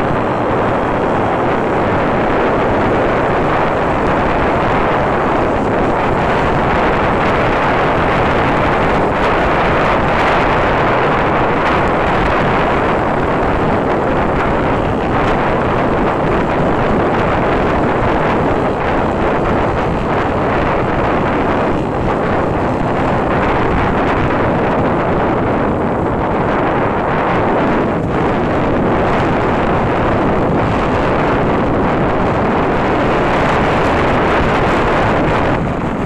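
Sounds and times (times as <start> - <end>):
motorcycle engine: 0.0 - 36.0
road noise: 0.0 - 36.0
wind rushing on microphone: 0.0 - 36.0.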